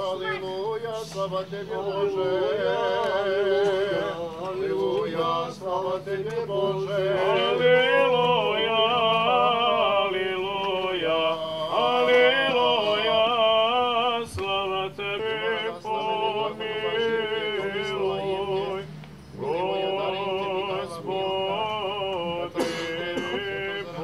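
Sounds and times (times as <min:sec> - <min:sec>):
men chanting: 0:00.0 - 0:24.0.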